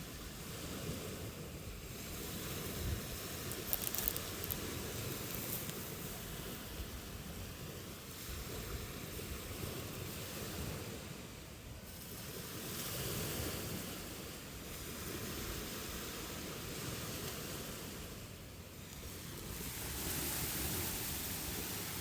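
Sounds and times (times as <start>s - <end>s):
ocean waves washing on shore: 0.0s - 22.0s.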